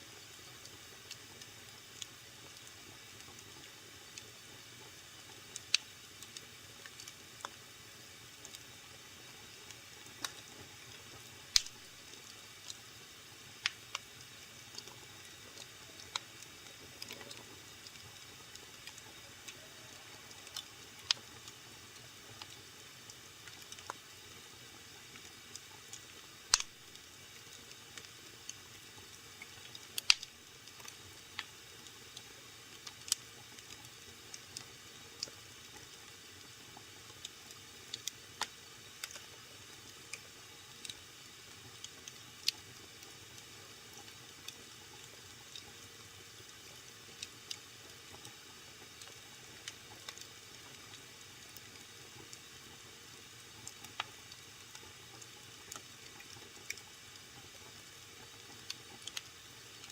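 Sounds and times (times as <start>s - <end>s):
wood fire crackling and popping: 0.4s - 7.6s, 9.2s - 12.8s, 13.4s - 45.8s, 46.4s - 59.9s.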